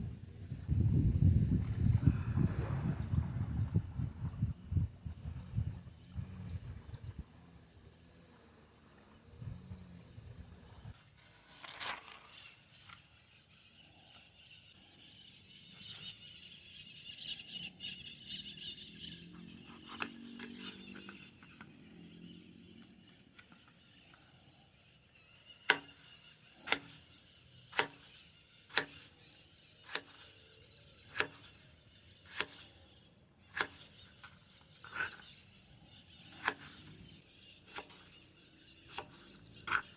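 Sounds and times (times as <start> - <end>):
faint outdoor background: 0.0 - 39.9.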